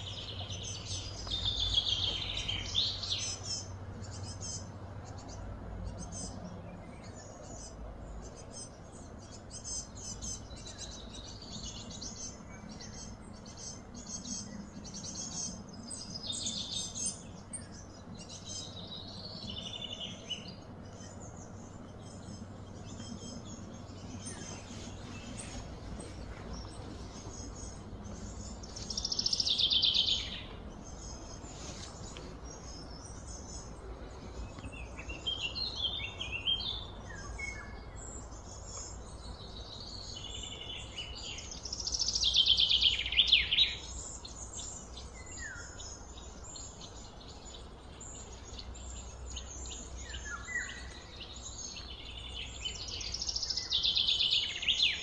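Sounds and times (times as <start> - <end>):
low background rumble: 0.0 - 54.2
birds chirping and calling: 0.0 - 55.0.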